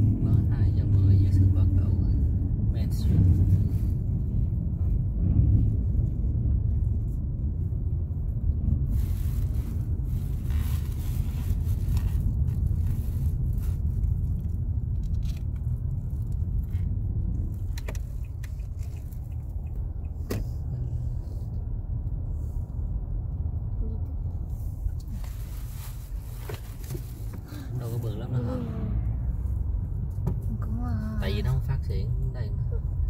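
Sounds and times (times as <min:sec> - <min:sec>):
road and engine rumble in car: 0:00.0 - 0:33.0.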